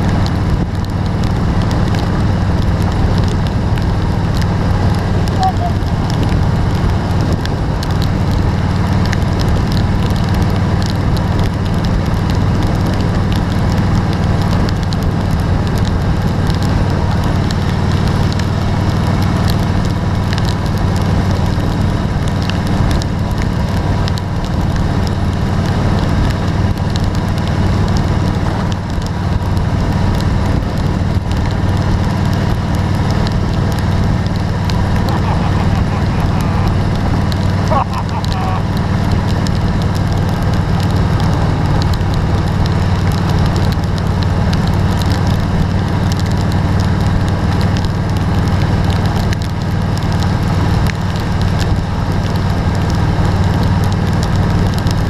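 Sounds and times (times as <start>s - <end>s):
low rumble: 0.0s - 53.1s
rain pattering: 0.0s - 55.0s.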